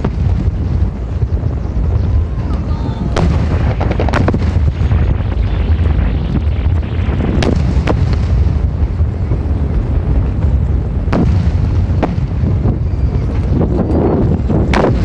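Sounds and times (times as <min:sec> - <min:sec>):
fireworks rumbling: 0:00.0 - 0:15.0
fireworks sharp cracks: 0:00.0 - 0:15.0.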